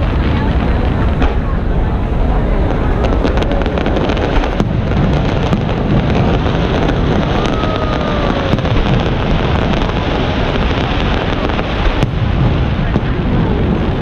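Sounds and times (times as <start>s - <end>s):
fireworks booming: 0.0s - 14.0s
sharp firework bangs: 0.0s - 14.0s.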